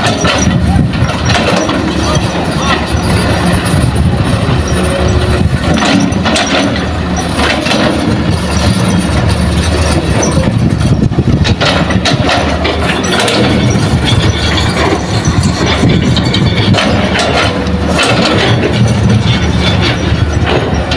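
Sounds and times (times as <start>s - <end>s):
heavy diesel engine running: 0.0s - 20.9s
short rattles and scrapes: 0.0s - 20.9s.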